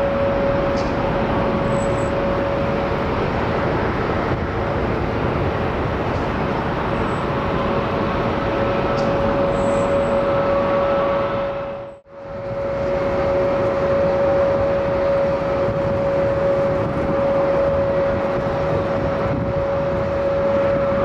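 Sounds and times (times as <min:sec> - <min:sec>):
jet engines roaring: 0:00.0 - 0:21.0
steady engine tone: 0:00.0 - 0:21.0.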